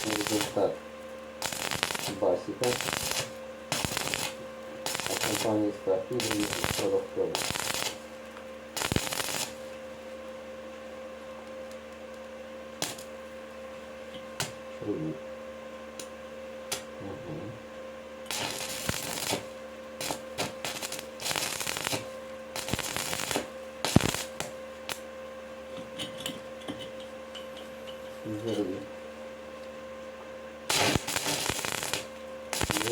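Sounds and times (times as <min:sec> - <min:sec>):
electrical hum: 0:00.0 - 0:32.9.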